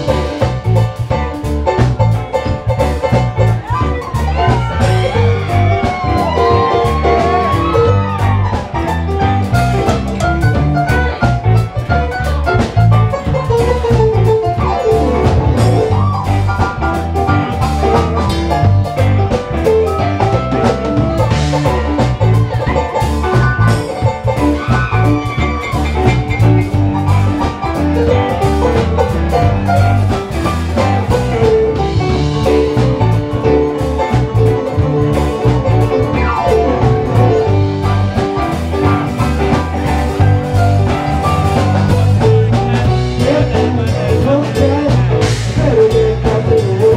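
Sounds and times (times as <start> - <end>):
drum kit beat: 0.0 - 46.9
electric guitars: 0.0 - 46.9
keyboard: 0.0 - 46.9.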